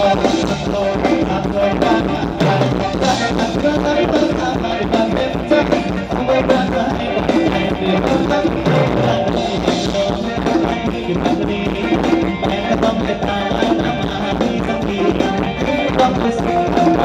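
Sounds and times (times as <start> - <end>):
drums keeping steady beat: 0.0 - 17.0
live band dance music: 0.0 - 17.0.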